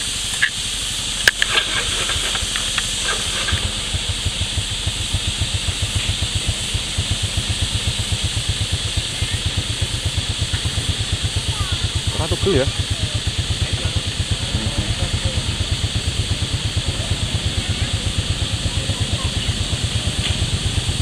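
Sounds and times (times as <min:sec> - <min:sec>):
engine idling: 0:00.0 - 0:21.0
steady high hiss: 0:00.0 - 0:21.0.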